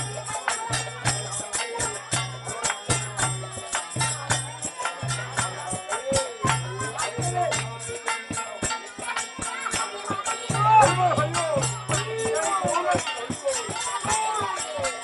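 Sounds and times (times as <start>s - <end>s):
drum: 0.0s - 15.0s
hand cymbals clashing: 0.0s - 15.0s
harmonium: 0.0s - 15.0s.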